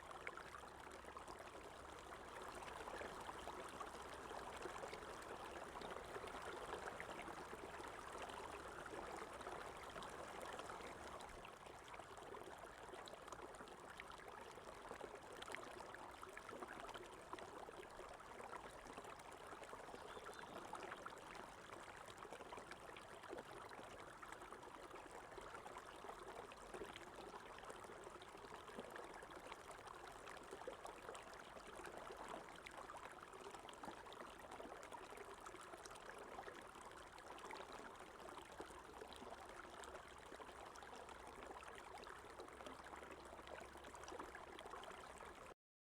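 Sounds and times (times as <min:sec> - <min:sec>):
stream trickling: 0:00.0 - 0:45.6.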